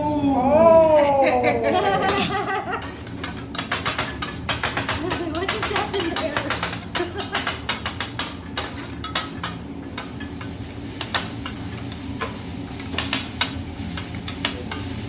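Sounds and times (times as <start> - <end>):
food sizzling: 2.3 - 15.0
metal spatulas clacking on griddle: 2.8 - 15.0.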